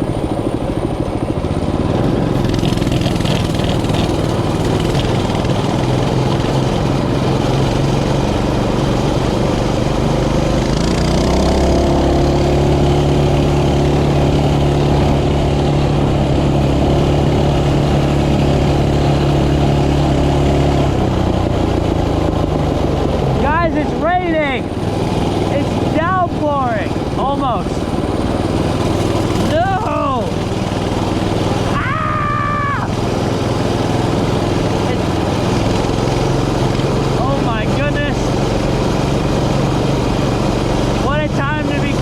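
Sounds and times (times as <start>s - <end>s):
mini bike engine running: 0.0s - 42.0s.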